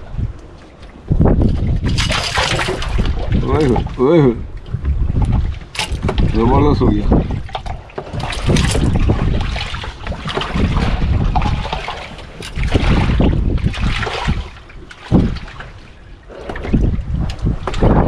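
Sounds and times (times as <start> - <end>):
sea water splashing: 0.0 - 18.0
wind buffeting microphone: 0.0 - 18.0.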